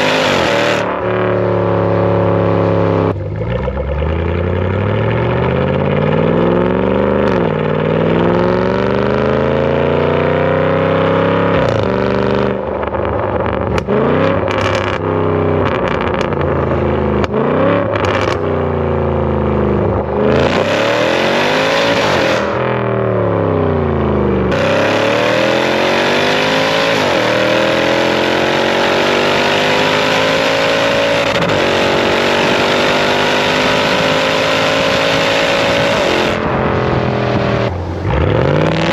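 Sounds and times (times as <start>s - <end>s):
engine accelerating hard: 0.0s - 38.9s.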